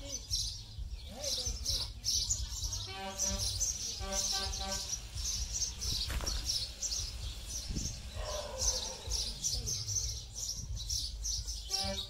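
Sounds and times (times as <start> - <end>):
small birds chirping: 0.0 - 12.0
steady low rumble: 0.4 - 11.7.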